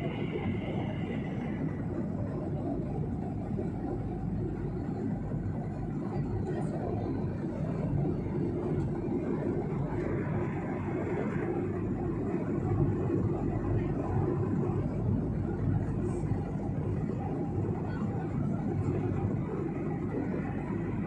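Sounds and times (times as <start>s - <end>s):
jet airliner cabin drone: 0.0s - 21.0s.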